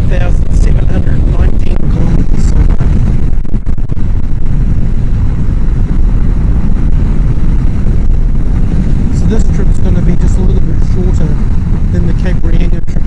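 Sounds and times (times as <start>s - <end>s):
motorcycle engine rumble: 0.0s - 13.0s
wind rushing past helmet: 0.0s - 13.0s.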